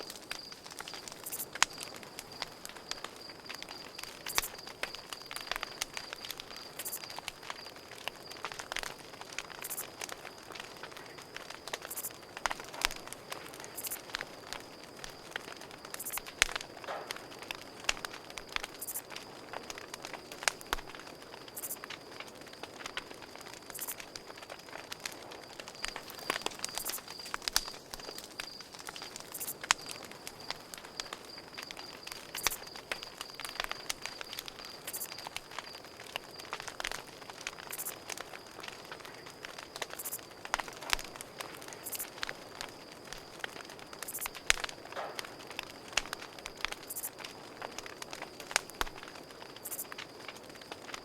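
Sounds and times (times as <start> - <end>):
campfire crackling: 0.0 - 51.0
crickets trilling: 0.0 - 51.0
fire popping: 0.0 - 51.0.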